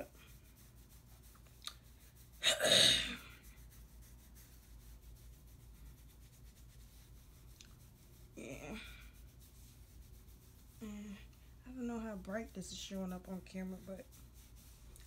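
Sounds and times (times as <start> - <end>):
fingers rustling through hair: 0.0 - 2.5, 3.2 - 15.0.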